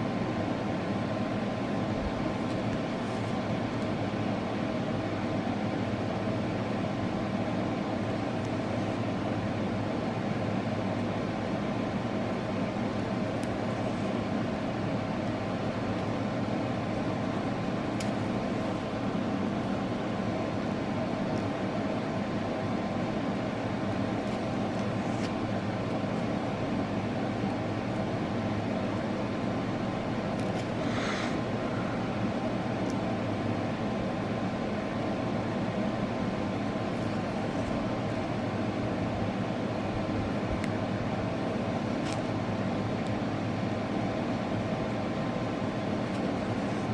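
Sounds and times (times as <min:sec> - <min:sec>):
steady mechanical hum: 0:00.0 - 0:46.9.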